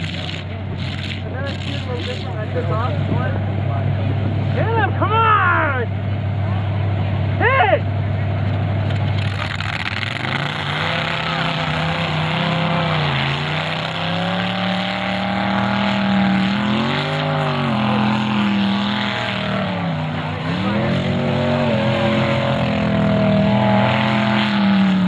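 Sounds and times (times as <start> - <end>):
car engines revving hard: 0.0 - 7.4, 8.1 - 25.0.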